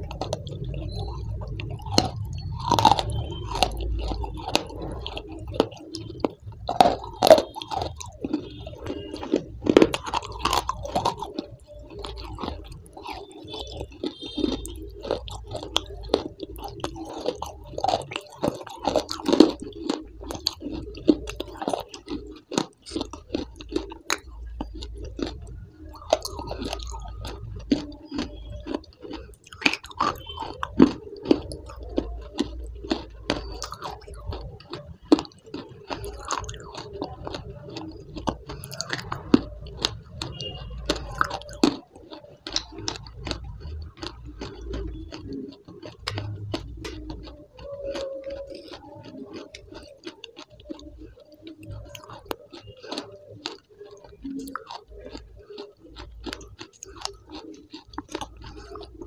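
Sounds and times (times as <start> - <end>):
crisp chewing crunches: 0.0 - 59.0
wet mouth noises: 0.0 - 59.0.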